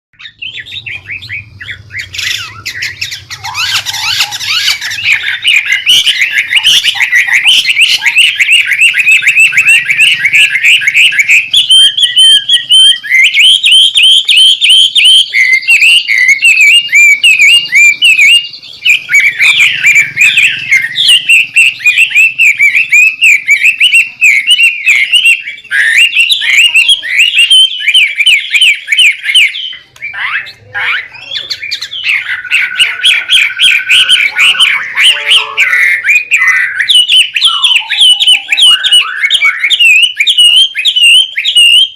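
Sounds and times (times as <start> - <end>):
bird singing whistles and chattering: 0.2 - 41.9.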